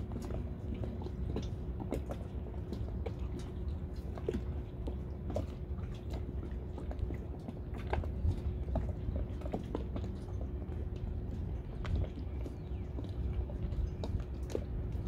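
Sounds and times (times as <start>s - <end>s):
waves slapping against boat hull: 0.0s - 15.0s
wind rumble on microphone: 0.0s - 15.0s.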